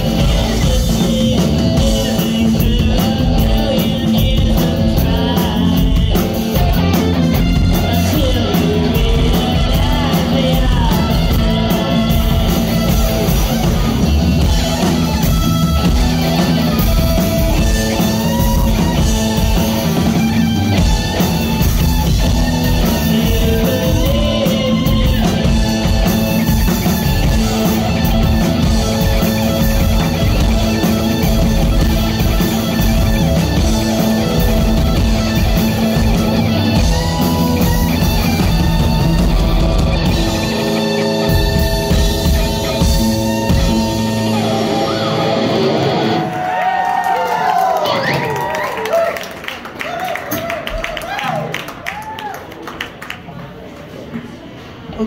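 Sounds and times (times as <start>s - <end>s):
person singing: 0.0s - 15.2s, 15.8s - 45.3s
live rock band playing: 0.0s - 51.0s.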